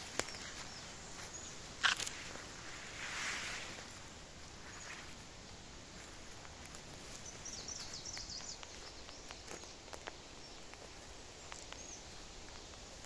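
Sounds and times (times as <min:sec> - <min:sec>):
footsteps and twigs crackling: 0:00.0 - 0:13.0
songbird singing: 0:00.0 - 0:13.0.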